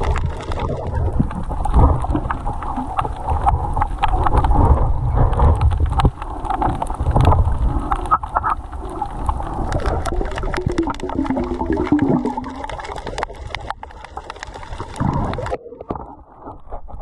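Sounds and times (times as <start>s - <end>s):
underwater clicks and crackles: 0.0s - 17.0s
underwater rumble: 0.0s - 17.0s.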